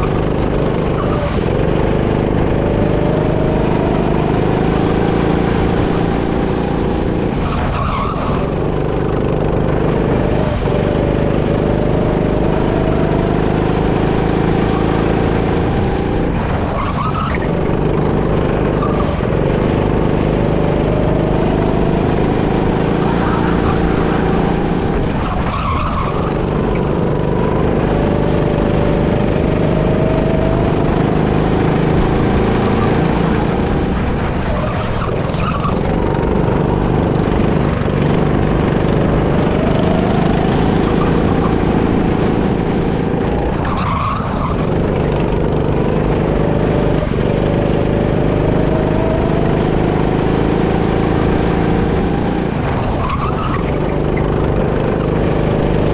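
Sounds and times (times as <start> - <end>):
go-kart engine: 0.0 - 55.9.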